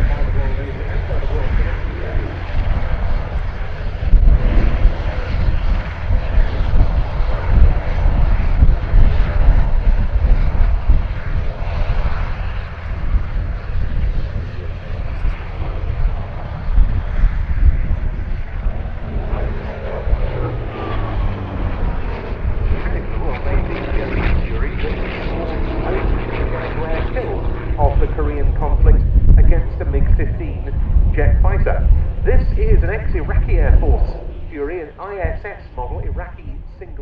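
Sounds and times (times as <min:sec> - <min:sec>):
aircraft radial engine rumble: 0:00.0 - 0:37.0.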